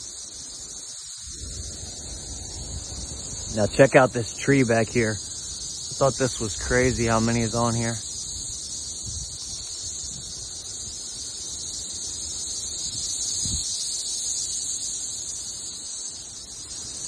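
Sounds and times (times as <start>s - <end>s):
cicadas droning buzz: 0.0s - 17.0s.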